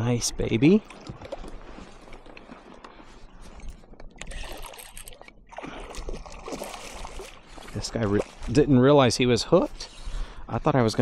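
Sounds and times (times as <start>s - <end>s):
water splashing around kayak: 0.0s - 10.5s.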